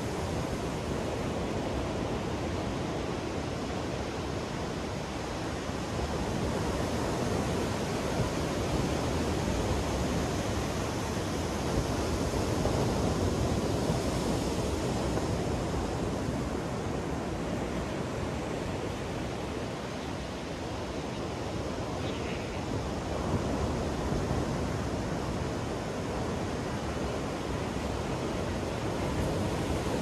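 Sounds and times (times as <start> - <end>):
ocean waves breaking on beach: 0.0 - 30.0.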